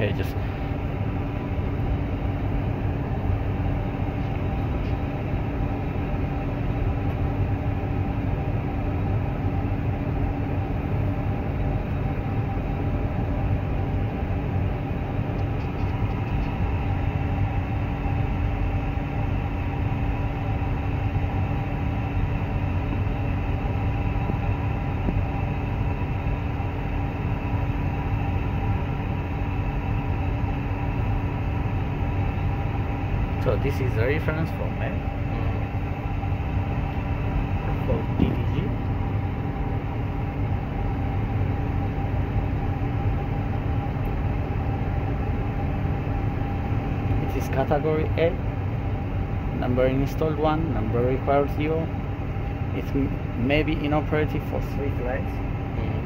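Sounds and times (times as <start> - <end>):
air-conditioning and equipment fans: 0.0 - 56.0.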